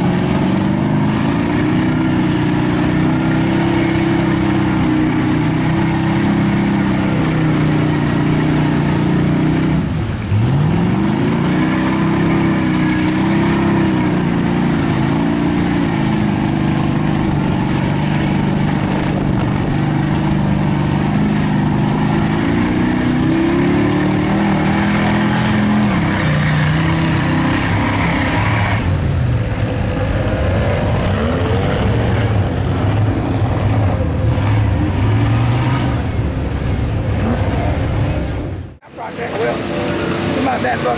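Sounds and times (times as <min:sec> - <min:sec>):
truck engine revving in mud: 0:00.0 - 0:40.9.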